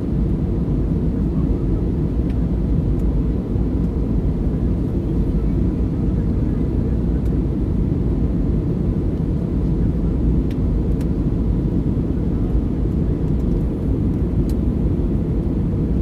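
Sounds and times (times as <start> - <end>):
airplane cabin roar: 0.0 - 16.0.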